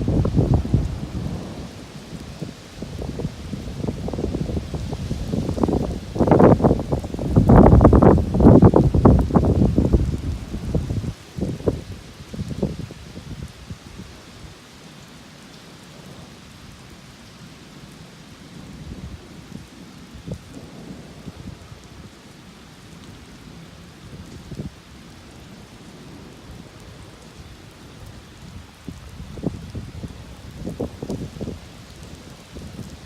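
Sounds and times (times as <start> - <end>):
low rumble of thunder: 0.0 - 14.1, 18.5 - 22.3, 22.9 - 33.0
steady rain: 0.0 - 33.0.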